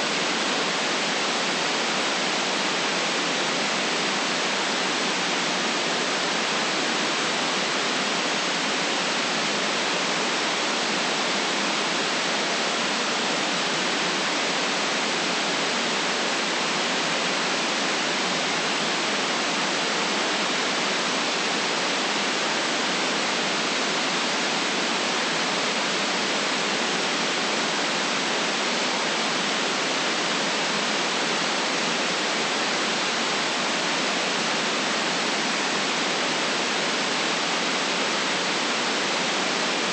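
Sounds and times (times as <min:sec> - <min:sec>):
synthetic white noise hiss: 0:00.0 - 0:39.9.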